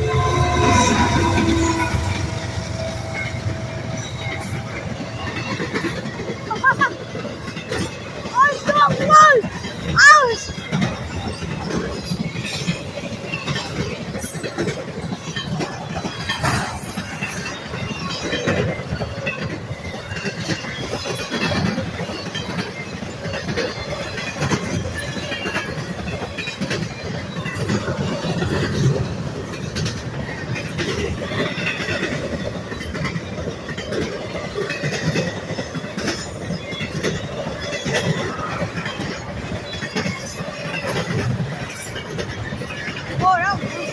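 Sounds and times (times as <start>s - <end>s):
train wheels clattering: 0.0s - 43.9s.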